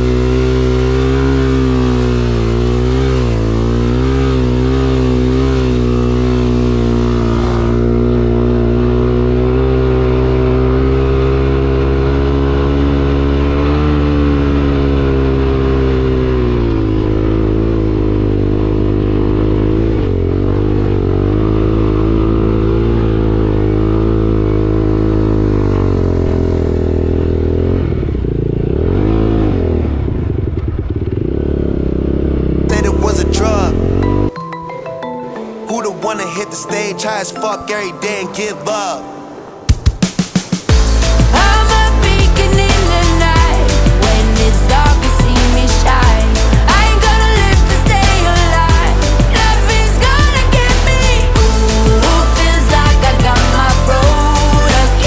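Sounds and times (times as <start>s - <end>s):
motorcycle engine revving: 0.0s - 34.3s, 39.2s - 55.0s.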